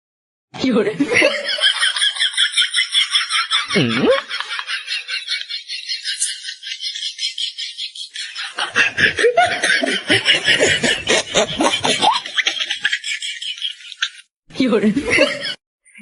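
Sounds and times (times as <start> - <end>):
lower fuller laughing: 1.0 - 14.2.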